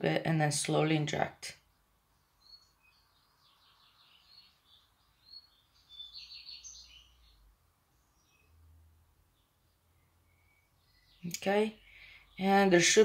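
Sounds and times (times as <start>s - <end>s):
birds chirping: 0.6s - 13.0s.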